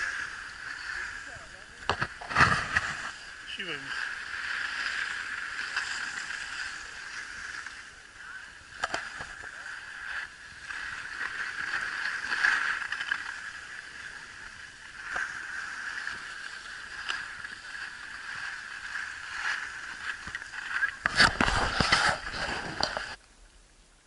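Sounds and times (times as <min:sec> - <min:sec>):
skis scraping over packed snow: 0:00.0 - 0:23.2.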